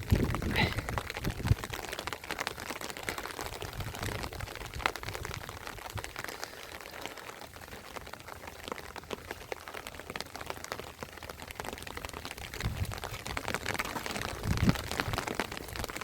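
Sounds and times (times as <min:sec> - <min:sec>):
rain drops pattering: 0:00.0 - 0:16.0
rain hiss: 0:00.0 - 0:16.0.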